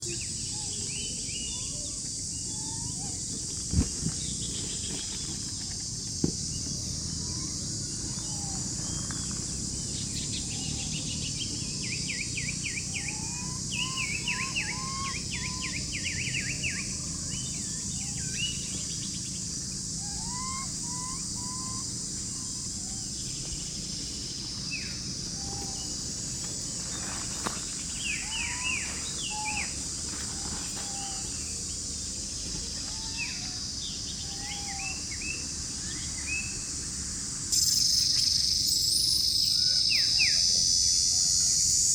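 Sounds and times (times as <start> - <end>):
high insect drone: 0.0 - 41.9
rising chirping calls: 6.5 - 41.6.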